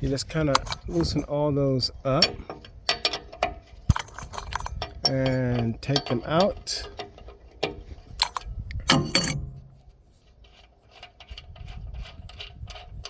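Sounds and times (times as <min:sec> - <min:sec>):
metal clinks and knocks: 0:00.3 - 0:01.2, 0:02.0 - 0:13.0.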